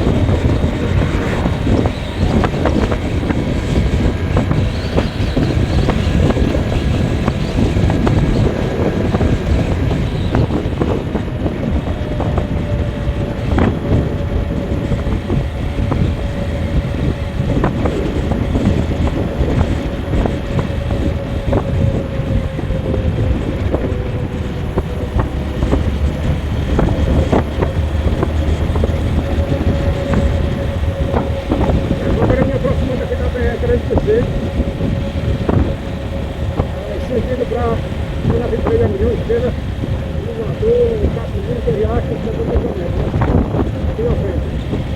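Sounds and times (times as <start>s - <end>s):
vehicle engine and road rumble: 0.0s - 44.9s
wind on microphone: 0.0s - 44.9s.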